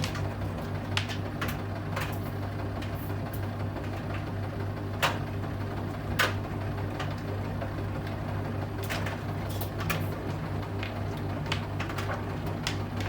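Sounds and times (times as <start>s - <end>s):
knocks of tumbling laundry: 0.0s - 13.0s
washing machine drum humming: 0.0s - 13.0s.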